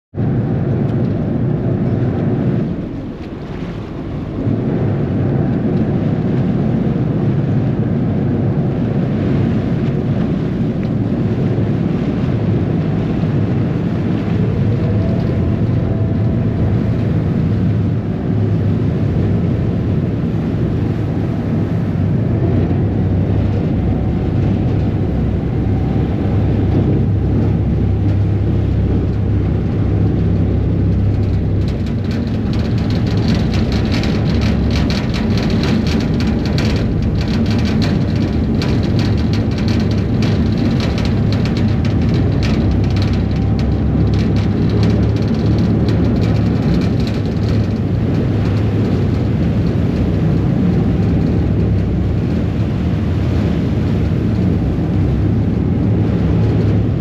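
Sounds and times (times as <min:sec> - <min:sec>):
diesel engine low rumble: 0:00.0 - 0:57.0
wind: 0:00.0 - 0:57.0
water rushing past hull: 0:00.2 - 0:57.0.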